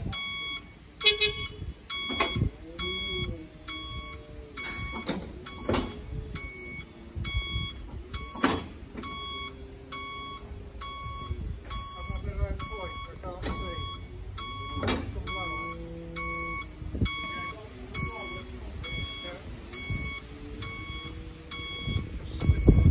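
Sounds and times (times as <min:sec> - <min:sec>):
reversing alarm beeping: 0:00.0 - 0:22.9.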